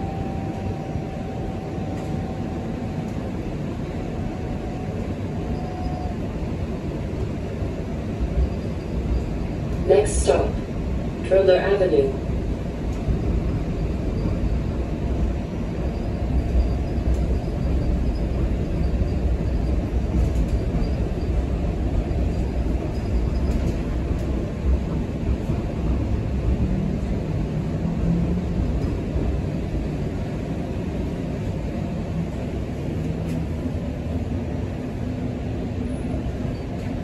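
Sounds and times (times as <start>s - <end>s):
streetcar rumbling on tracks: 0.0s - 37.0s.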